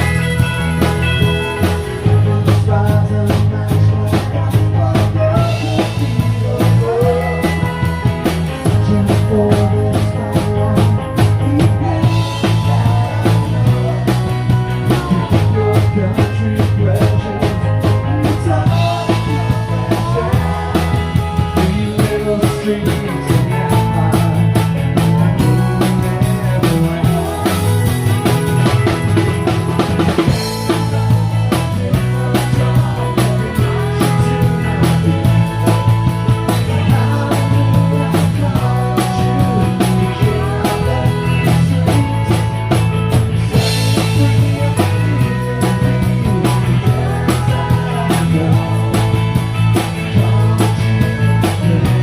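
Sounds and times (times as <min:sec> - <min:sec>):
live rock band playing: 0:00.0 - 0:52.0
steady drum beat: 0:00.0 - 0:52.0
sustained bass guitar notes: 0:00.0 - 0:52.0.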